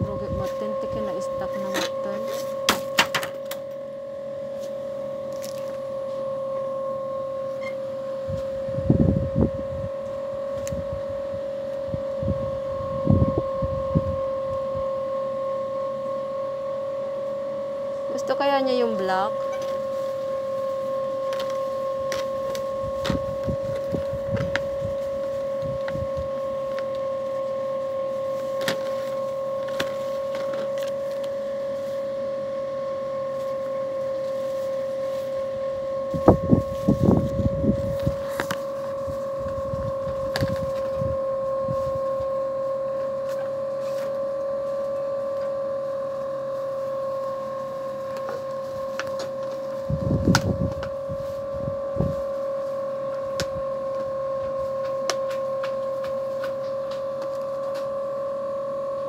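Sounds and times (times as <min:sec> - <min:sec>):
steady mid-pitched hum: 0:00.0 - 0:59.0.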